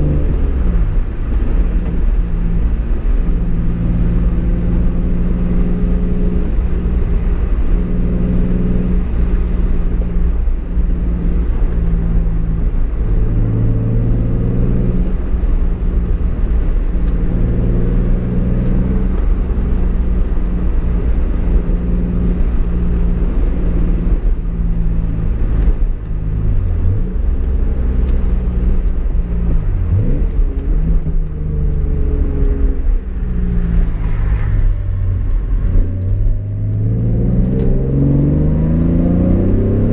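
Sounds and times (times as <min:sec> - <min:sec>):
car engine revving through gears: 0:00.0 - 0:39.9
low road rumble: 0:00.0 - 0:39.9.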